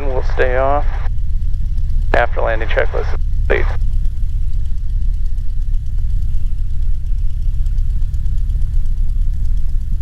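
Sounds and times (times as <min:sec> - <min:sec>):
aircraft engine idling: 0:00.0 - 0:10.0.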